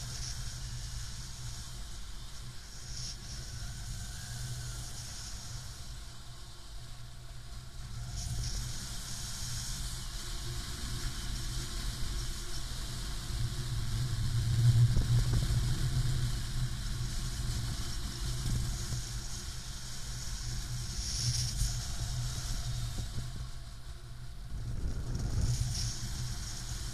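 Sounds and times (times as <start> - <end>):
wind rushing over microphone: 0.0 - 26.9.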